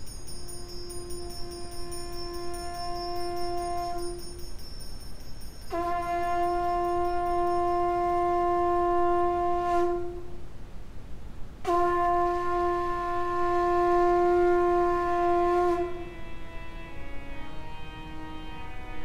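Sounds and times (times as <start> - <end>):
conch shell blasts: 0.0 - 10.3, 11.7 - 16.9.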